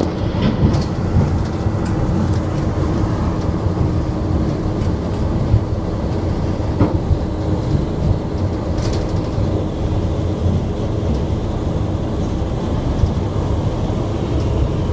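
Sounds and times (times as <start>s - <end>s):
low rumble of running train: 0.0s - 14.9s.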